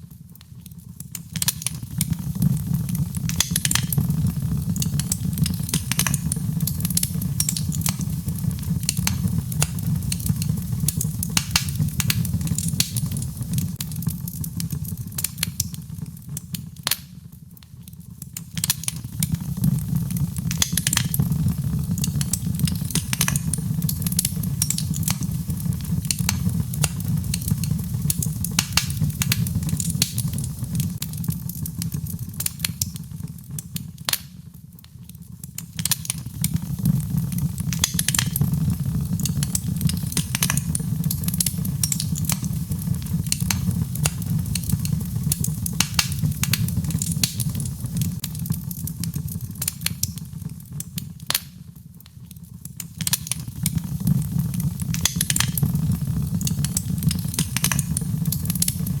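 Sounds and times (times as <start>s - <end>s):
logs crackling in fireplace: 0.0s - 59.0s.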